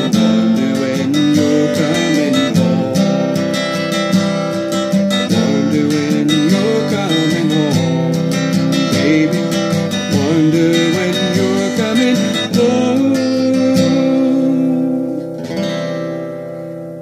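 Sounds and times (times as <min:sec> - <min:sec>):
man singing: 0:00.0 - 0:04.2, 0:04.9 - 0:15.6
acoustic guitar strumming: 0:00.0 - 0:17.0.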